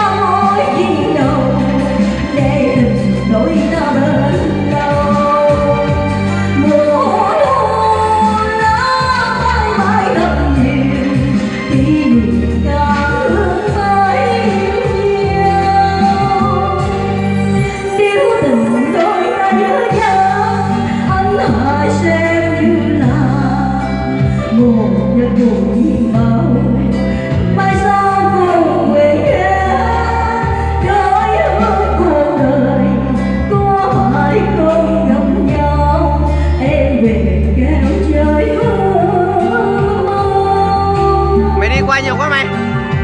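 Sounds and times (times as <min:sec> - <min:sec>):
slow ballad music: 0:00.0 - 0:43.0.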